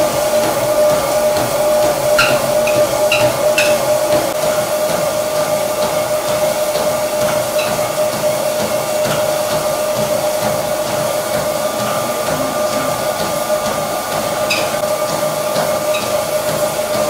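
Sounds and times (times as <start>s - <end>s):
soft footfalls on treadmill belt: 0.0s - 17.0s
treadmill motor whine: 0.0s - 17.0s.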